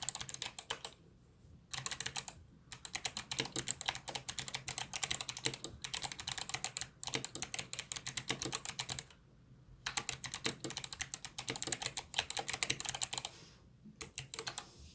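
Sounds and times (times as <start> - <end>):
fast typing on clicky keyboard: 0.0 - 1.0, 1.7 - 9.1, 9.9 - 13.3, 14.0 - 14.6.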